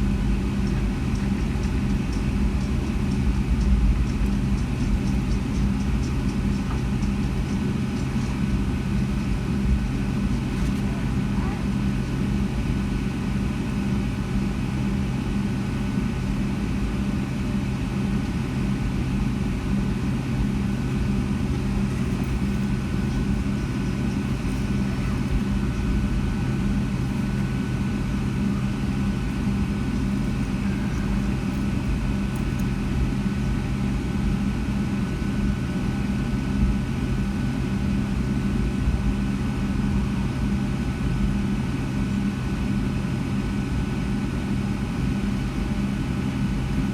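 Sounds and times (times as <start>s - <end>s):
jet engines idling in cabin: 0.0s - 46.9s.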